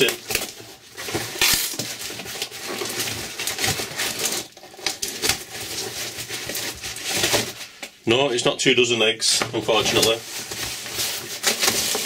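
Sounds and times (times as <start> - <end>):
cardboard and tape ripping: 0.0 - 7.6, 9.7 - 12.0.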